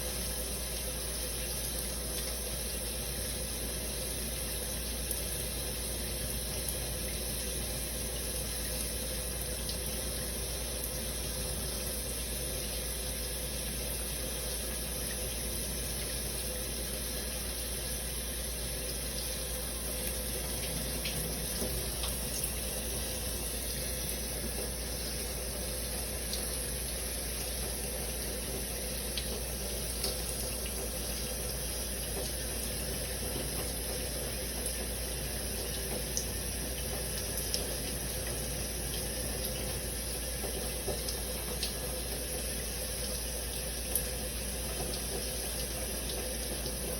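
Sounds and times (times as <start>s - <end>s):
shower water spraying: 0.0s - 46.9s.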